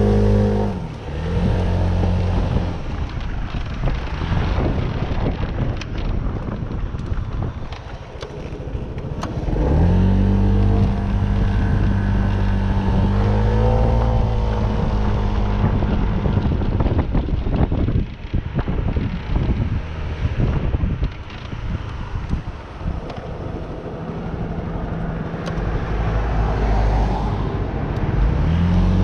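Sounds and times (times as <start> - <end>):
vehicle engine: 0.0 - 29.0
wind on microphone: 0.0 - 29.0.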